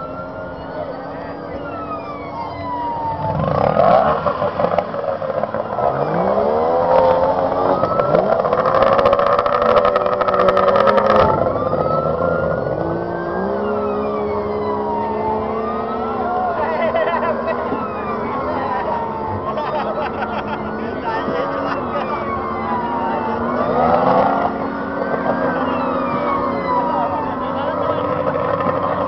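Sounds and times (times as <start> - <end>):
outboard motors racing: 0.0 - 29.0.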